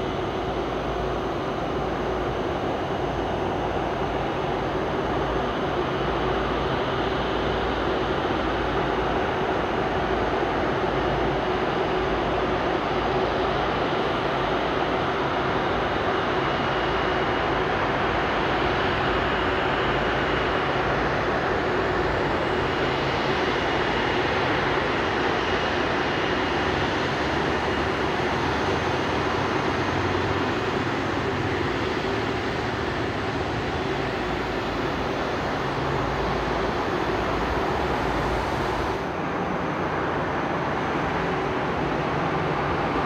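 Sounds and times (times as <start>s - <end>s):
jet engines taxiing: 0.0s - 43.0s.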